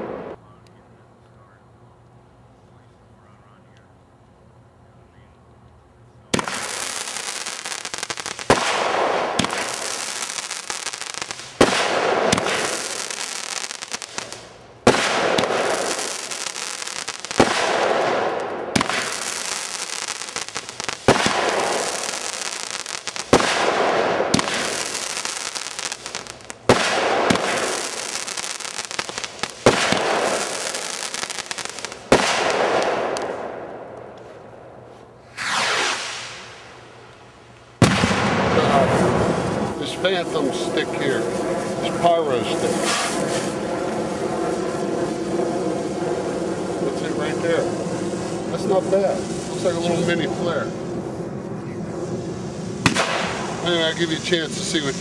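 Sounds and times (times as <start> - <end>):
firework shots cracking: 6.3 - 34.6, 35.2 - 55.0
firework crackling hiss: 6.4 - 33.5, 35.2 - 55.0.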